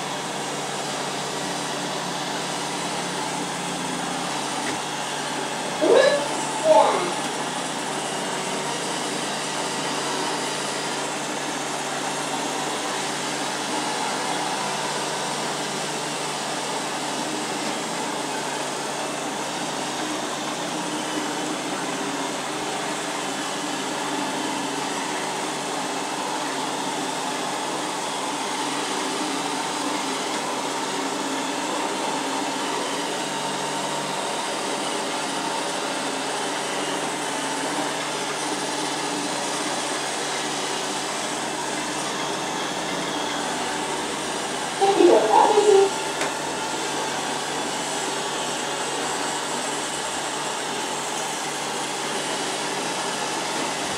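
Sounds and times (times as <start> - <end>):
robot vacuum cleaner whirring: 0.0 - 53.9.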